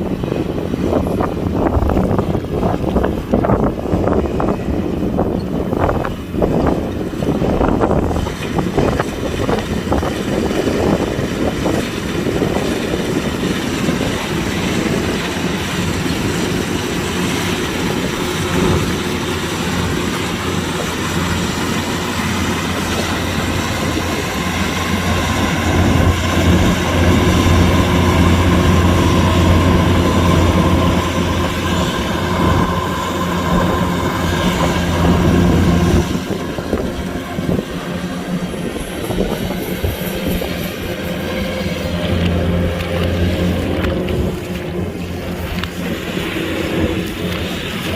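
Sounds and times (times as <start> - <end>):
combine harvester engine and machinery: 0.0 - 47.9.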